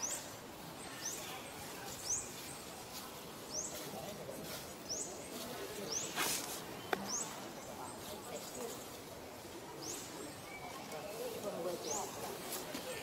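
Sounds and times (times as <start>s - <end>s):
murmur of distant voices: 0.0s - 13.0s.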